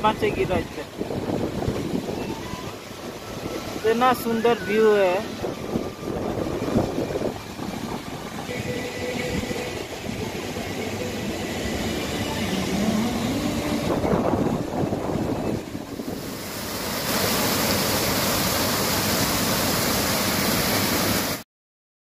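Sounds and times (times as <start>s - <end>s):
waterfall rushing: 0.0s - 21.4s.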